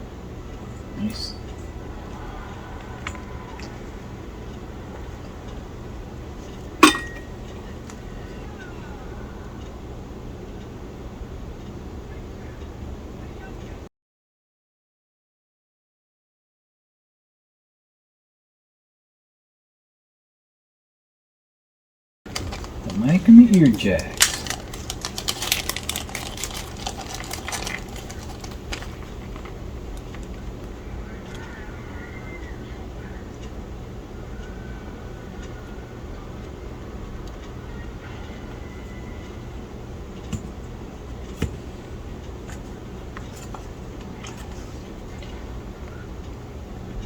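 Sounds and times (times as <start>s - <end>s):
low background hum: 0.0s - 13.9s, 22.3s - 47.0s.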